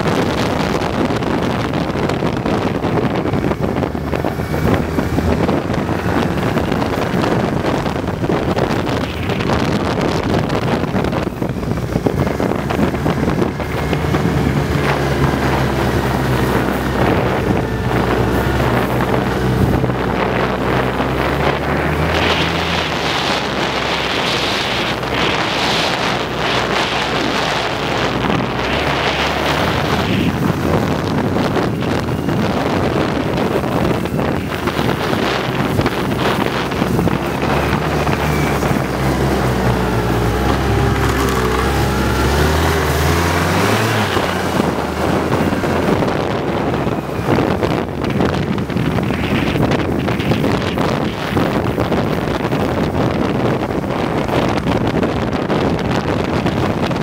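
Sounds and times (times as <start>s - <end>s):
snowmobile engine running: 0.0s - 57.0s
wind noise on microphone: 0.0s - 57.0s.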